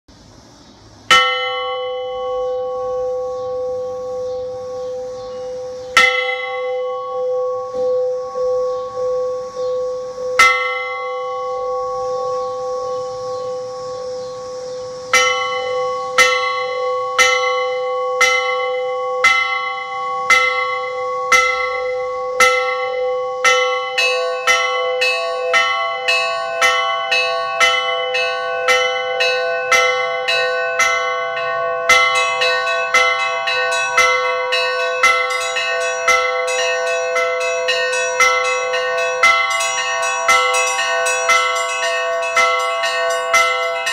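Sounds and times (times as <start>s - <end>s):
church bells pealing: 1.1s - 43.9s.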